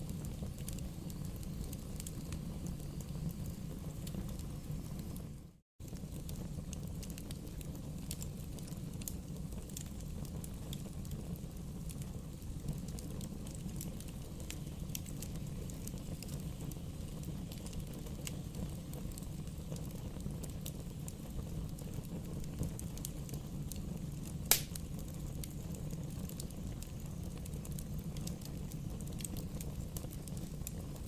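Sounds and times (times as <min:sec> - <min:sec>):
bonfire low rumble: 0:00.0 - 0:31.0
burning wood crackling and popping: 0:00.0 - 0:31.0.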